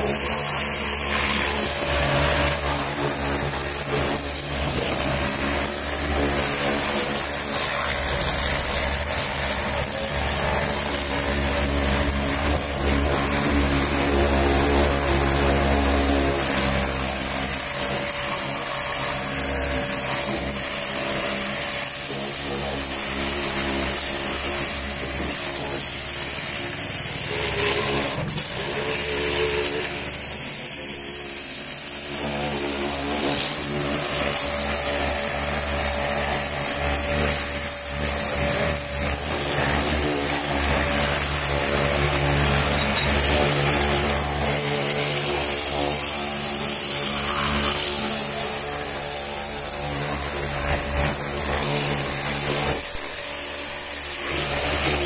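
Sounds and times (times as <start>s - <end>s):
pressure washer motor hum: 0.0s - 55.0s
water jet hissing: 0.0s - 55.0s.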